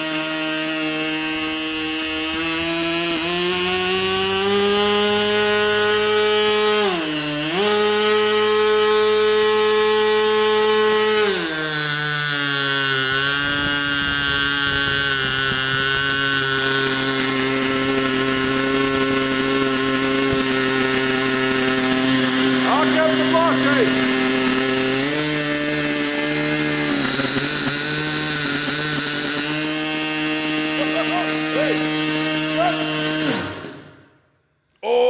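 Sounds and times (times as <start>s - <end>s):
two-stroke model engine running fast: 0.0s - 34.1s.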